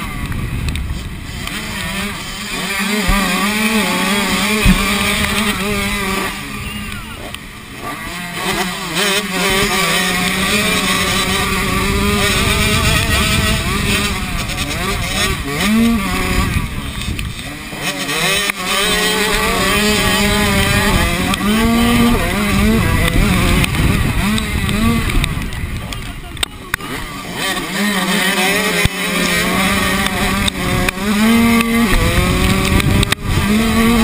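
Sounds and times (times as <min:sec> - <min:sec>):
motorcycle engine revving: 0:00.0 - 0:34.0
steady rushing noise: 0:00.0 - 0:34.0.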